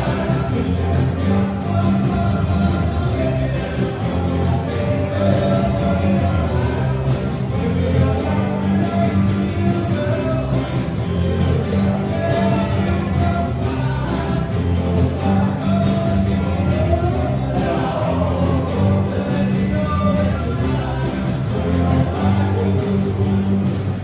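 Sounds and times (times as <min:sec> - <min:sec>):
person singing: 0:00.0 - 0:24.0
rock band playing live: 0:00.0 - 0:24.0.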